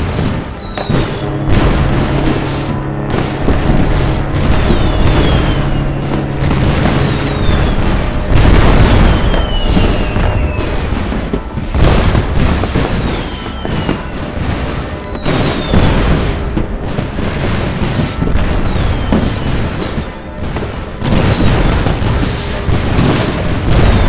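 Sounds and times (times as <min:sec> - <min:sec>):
falling firework whistles: 0:00.0 - 0:24.0
fireworks bangs: 0:00.0 - 0:24.0
music: 0:00.0 - 0:24.0.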